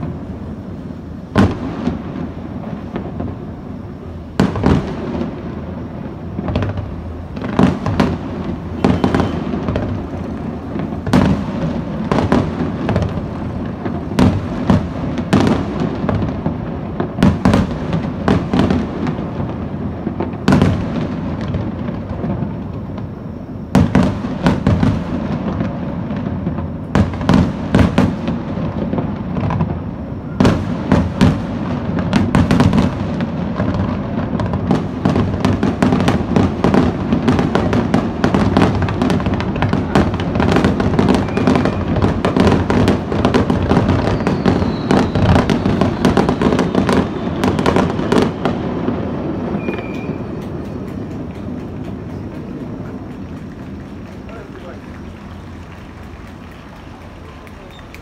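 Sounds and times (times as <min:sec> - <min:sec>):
firework bangs: 0:00.0 - 0:58.0
firework crackling: 0:00.0 - 0:58.0.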